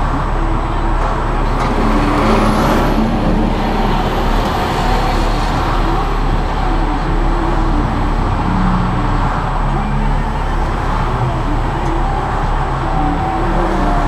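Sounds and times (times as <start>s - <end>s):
low engine hum: 0.0s - 14.0s
truck driving past: 0.0s - 14.0s.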